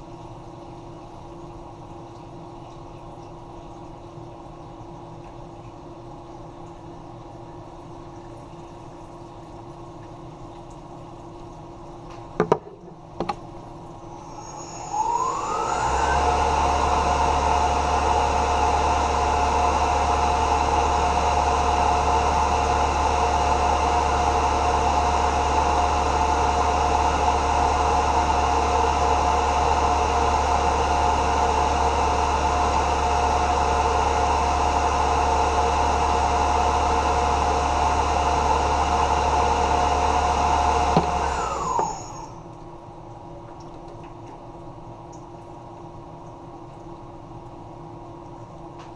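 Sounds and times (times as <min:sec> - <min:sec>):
mill spindle whine and hum: 0:00.0 - 0:48.9.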